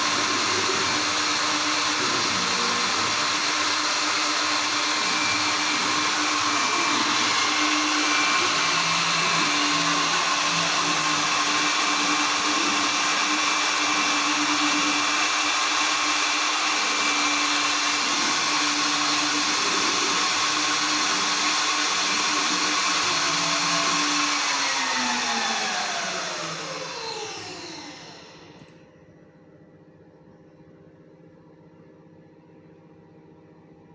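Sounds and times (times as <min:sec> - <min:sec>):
spindle motor whining: 0:00.0 - 0:28.7.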